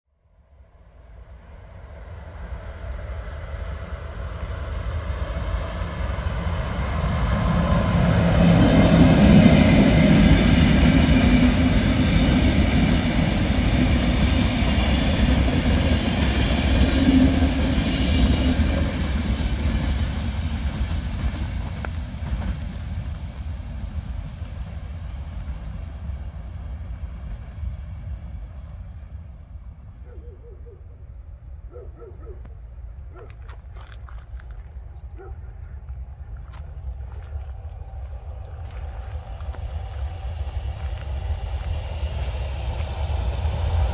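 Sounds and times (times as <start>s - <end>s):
passenger train passing: 0.2s - 33.3s, 33.9s - 43.9s.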